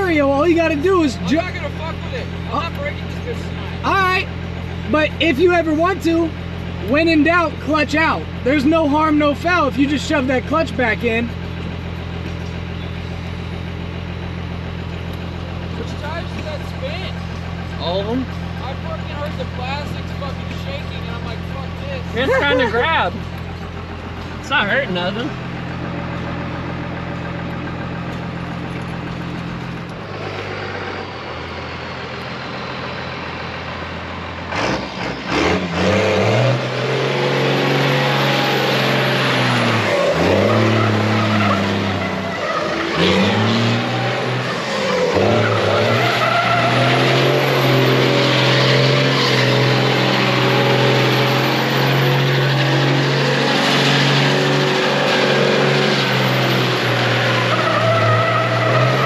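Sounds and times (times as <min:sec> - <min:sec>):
car engine revving: 0:00.0 - 0:59.0
tyres skidding on wet pavement: 0:00.0 - 0:59.0.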